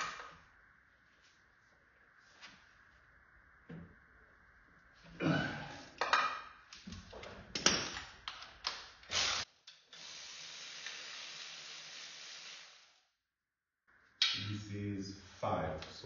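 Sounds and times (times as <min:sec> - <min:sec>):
faint steady hiss: 0:00.0 - 0:13.1, 0:14.2 - 0:16.0.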